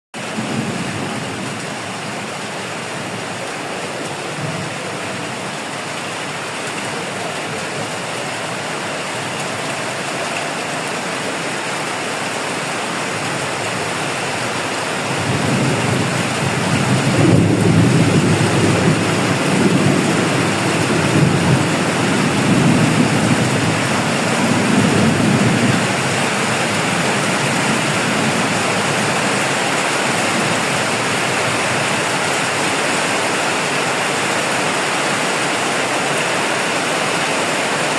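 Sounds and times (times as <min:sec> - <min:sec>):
heavy rain pouring: 0:00.2 - 0:37.9.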